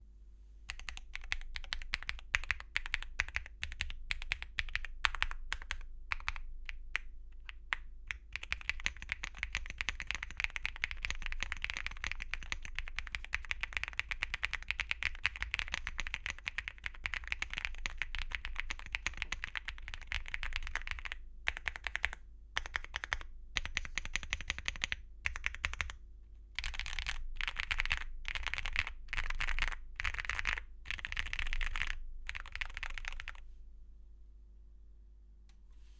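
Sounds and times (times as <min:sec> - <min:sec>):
typing on mechanical keyboard: 0:00.7 - 0:26.0, 0:26.6 - 0:33.4.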